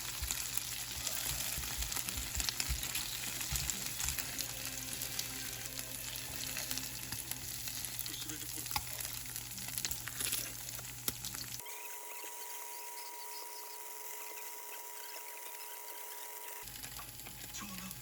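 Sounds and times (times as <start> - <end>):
food sizzling in a frying pan: 0.0 - 14.2, 14.9 - 18.0.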